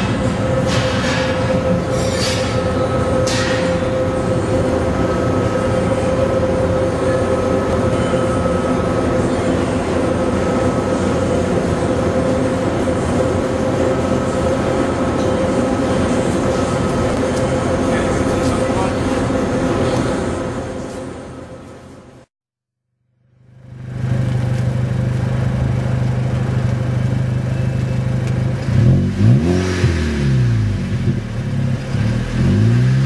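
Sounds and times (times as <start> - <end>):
car engine idling: 0.0 - 22.2, 23.3 - 33.0.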